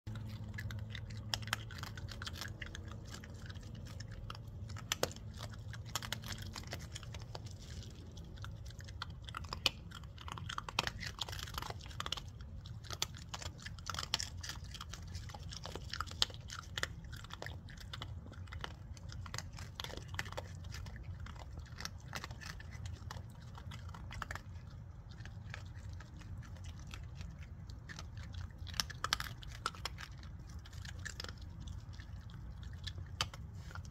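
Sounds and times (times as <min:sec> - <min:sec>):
animals crunching dry kibble: 0:00.1 - 0:33.9
low hum: 0:00.1 - 0:33.9.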